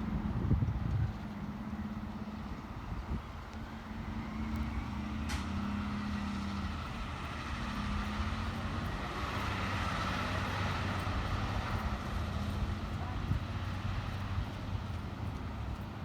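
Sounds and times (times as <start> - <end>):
fire truck engine humming: 0.0 - 16.0.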